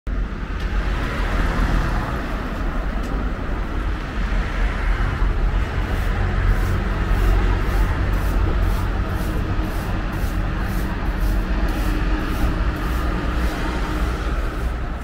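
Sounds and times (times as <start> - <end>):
traffic noise: 0.1 - 15.0.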